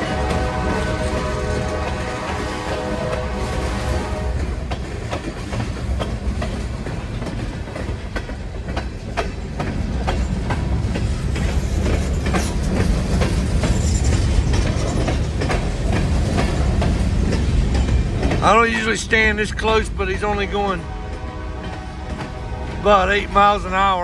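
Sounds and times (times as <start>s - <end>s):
freight train rumbling past: 0.0s - 24.0s
wheels clicking over rail joints: 0.0s - 24.0s.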